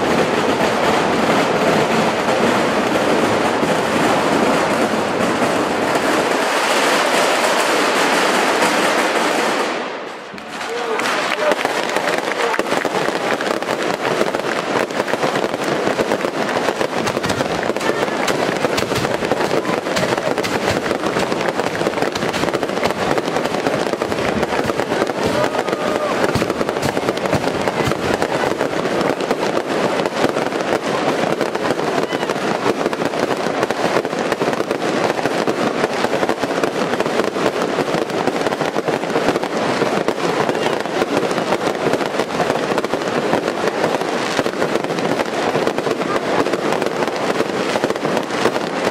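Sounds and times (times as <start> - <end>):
firecrackers crackling: 0.0 - 48.9.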